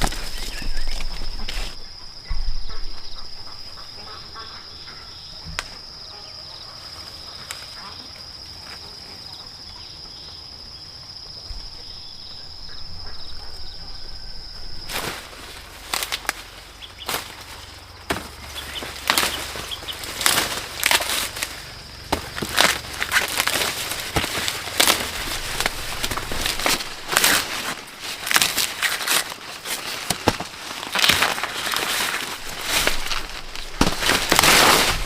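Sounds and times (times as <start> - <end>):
crackling rustles: 0.0 - 5.9, 11.5 - 35.0
insect high-pitched drone: 0.0 - 30.1.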